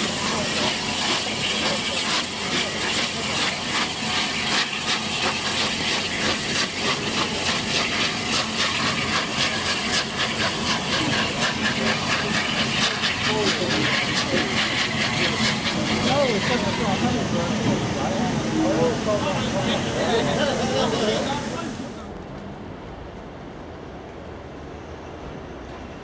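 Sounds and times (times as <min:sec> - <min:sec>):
steam hissing: 0:00.0 - 0:22.1
steam locomotive exhaust beats: 0:00.0 - 0:22.1.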